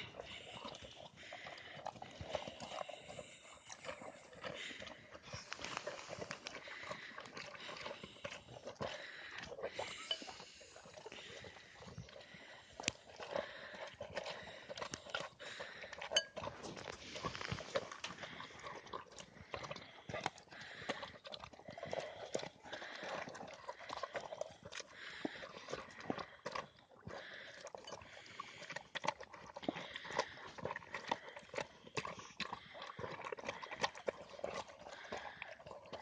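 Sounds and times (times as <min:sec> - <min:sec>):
dog chewing noisily: 0:00.0 - 0:36.0.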